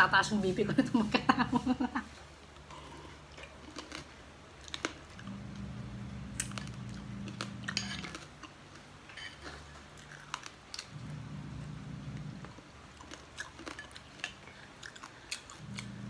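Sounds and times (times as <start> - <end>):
low steady hum: 0.0 - 16.0
person chewing noodles: 2.4 - 16.0.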